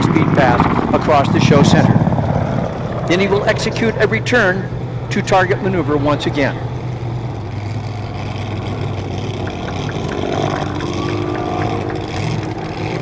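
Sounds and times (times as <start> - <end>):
helicopter low drone: 0.0 - 13.0.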